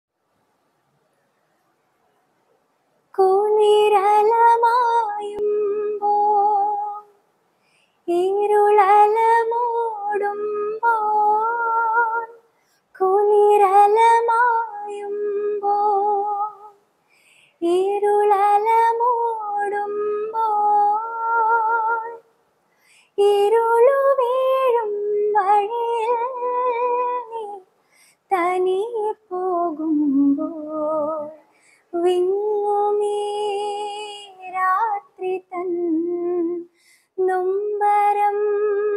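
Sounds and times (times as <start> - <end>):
woman singing a lullaby: 3.2 - 7.2, 8.1 - 12.4, 13.0 - 16.8, 17.6 - 22.3, 23.1 - 38.9.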